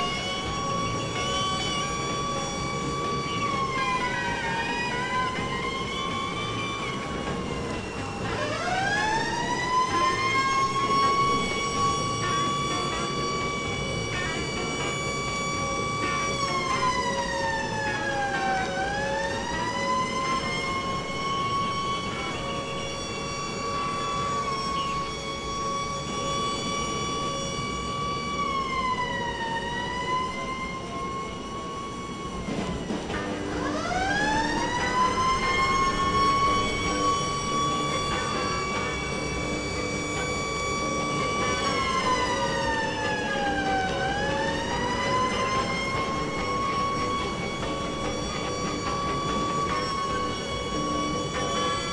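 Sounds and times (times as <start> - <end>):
siren wailing: 0.0 - 51.9.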